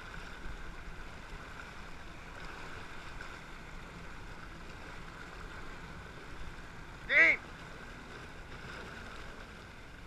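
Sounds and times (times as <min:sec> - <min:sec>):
distant watercraft engine drone: 0:00.0 - 0:10.0
rumble of wind and water: 0:00.0 - 0:10.0.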